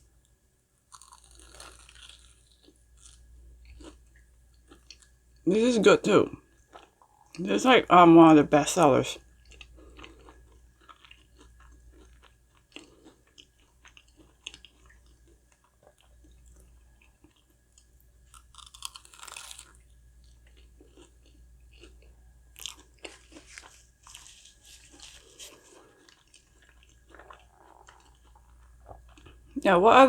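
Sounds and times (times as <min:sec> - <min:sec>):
chewing crunchy fried food: 0:00.2 - 0:05.5, 0:06.3 - 0:07.5, 0:09.1 - 0:29.6.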